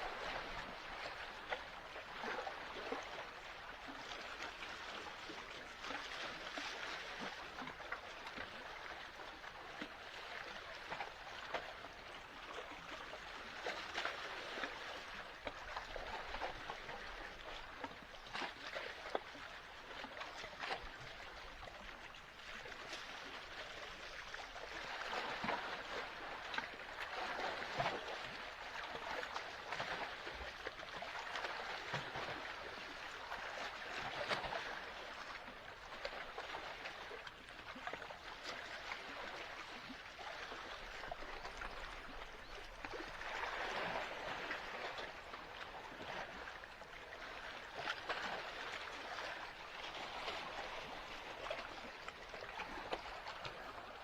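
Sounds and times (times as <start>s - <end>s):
waves lapping at shore: 0.0s - 54.0s.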